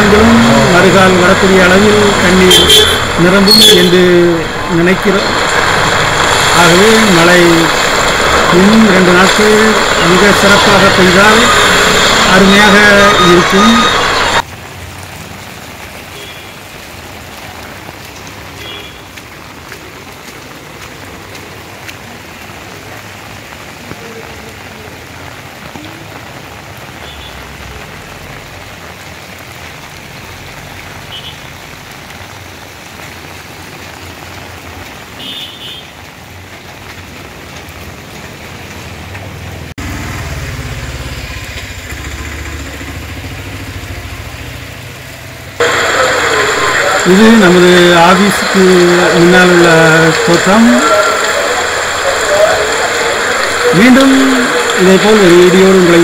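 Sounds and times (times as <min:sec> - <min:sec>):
close rain with low rumble: 0:00.0 - 0:56.0
rain on a wet road: 0:00.0 - 0:56.0.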